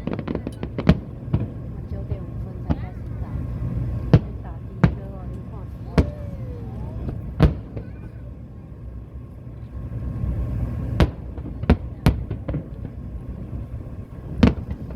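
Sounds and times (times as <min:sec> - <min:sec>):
fireworks bangs: 0:00.0 - 0:14.9
fireworks crackling: 0:00.0 - 0:14.9.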